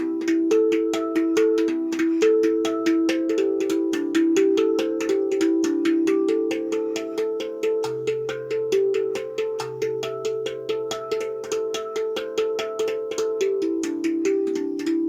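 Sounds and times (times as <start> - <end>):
steel tongue drum notes: 0.0 - 15.0.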